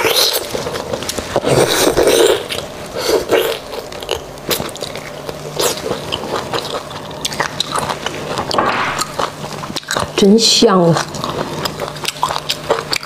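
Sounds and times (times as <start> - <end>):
chewing with lip smacks: 0.0 - 13.0
sucking and biting bone: 0.0 - 13.0.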